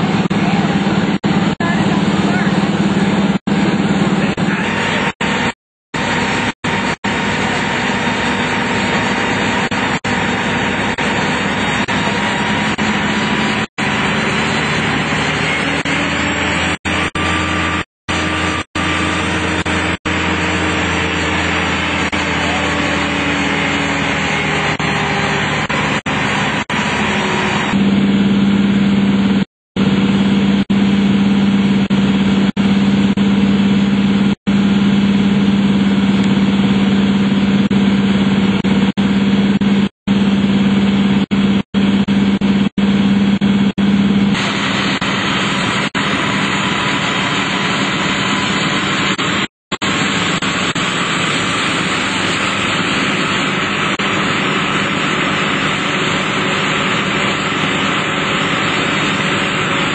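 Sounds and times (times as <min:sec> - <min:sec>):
fire engine motor running: 0:00.0 - 0:59.9
strong steady hum: 0:00.0 - 0:59.9.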